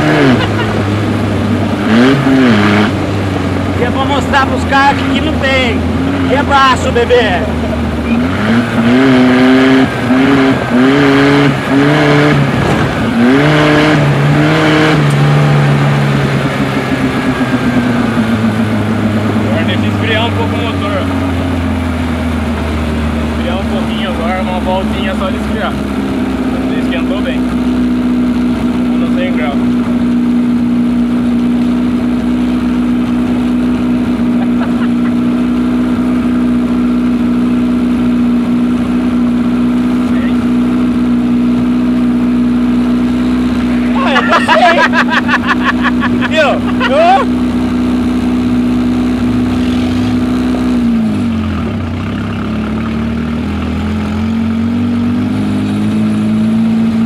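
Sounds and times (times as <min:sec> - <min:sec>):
vehicle engine accelerating: 0:00.0 - 0:57.0.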